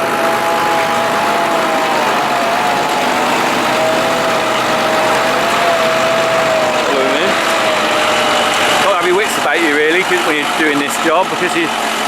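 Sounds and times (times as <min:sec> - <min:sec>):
constant whine: 0:00.0 - 0:12.0
farm machinery engine running: 0:00.0 - 0:12.0.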